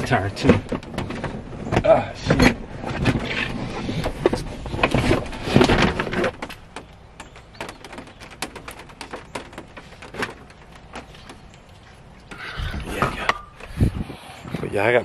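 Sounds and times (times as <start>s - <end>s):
rubber mats rustling and scraping: 0.0s - 15.0s.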